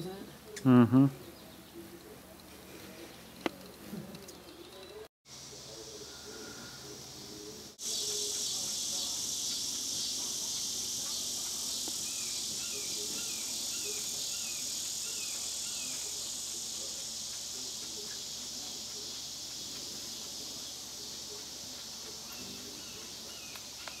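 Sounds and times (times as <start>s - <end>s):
insect chorus: 3.5s - 24.0s.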